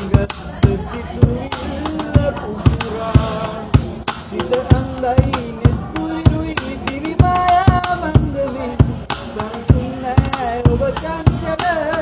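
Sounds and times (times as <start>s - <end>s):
boy singing: 0.0s - 12.0s
hand-struck drumbeat: 0.0s - 12.0s.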